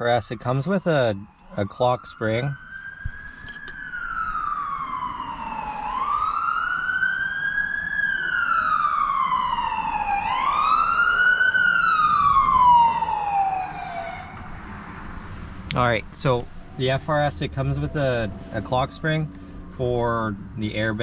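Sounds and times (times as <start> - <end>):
emergency siren wailing: 0.0 - 21.0.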